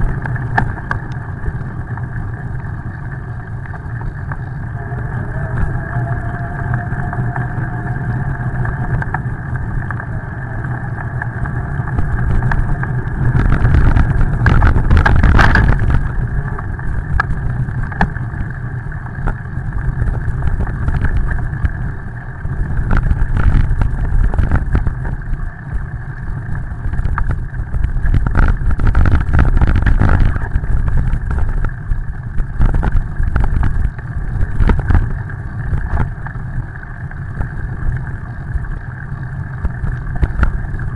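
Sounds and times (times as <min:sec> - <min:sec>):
wind rumbling on microphone: 0:00.0 - 0:40.9.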